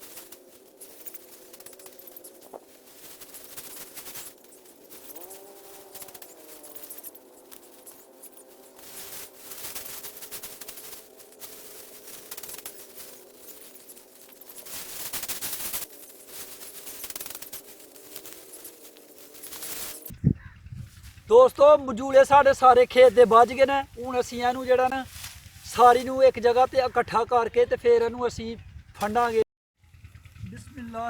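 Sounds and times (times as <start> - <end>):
dry rice stalks rustling: 0.0 - 28.0, 29.0 - 29.4.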